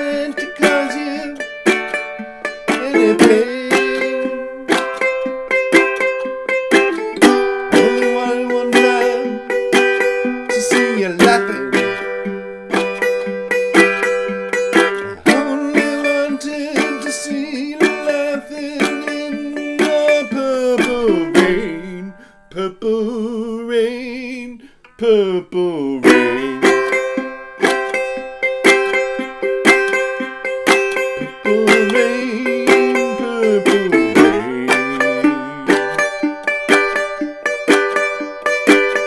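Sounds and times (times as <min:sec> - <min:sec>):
resonator guitar strummed chords: 0:00.0 - 0:22.3, 0:26.0 - 0:39.0
sliding guitar notes: 0:00.0 - 0:23.5, 0:24.6 - 0:39.0.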